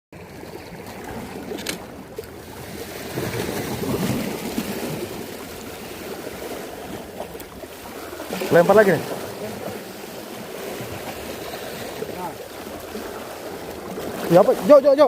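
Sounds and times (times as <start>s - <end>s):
sea water washing against shore: 0.2s - 15.0s.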